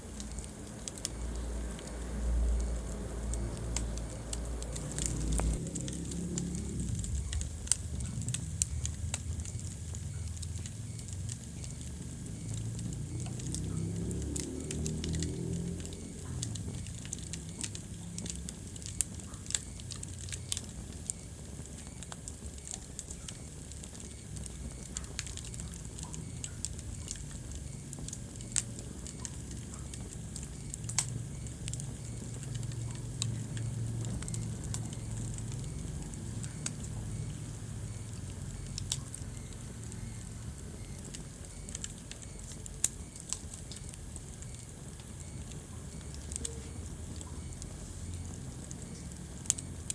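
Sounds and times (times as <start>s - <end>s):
flames rumbling: 0.0s - 49.9s
sharp pops of fire: 0.0s - 49.9s
wood fire crackling: 0.0s - 49.9s.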